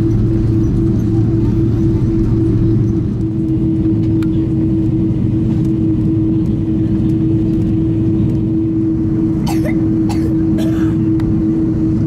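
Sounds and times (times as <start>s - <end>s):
aircraft engines rumbling: 0.0s - 12.0s
constant cabin hum: 0.0s - 12.0s.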